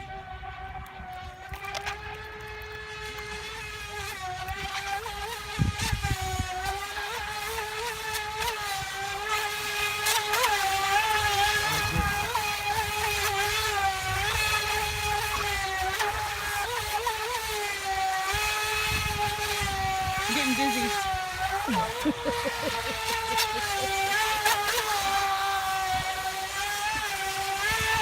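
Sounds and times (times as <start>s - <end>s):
rc boat electric motor whine: 0.0s - 28.0s.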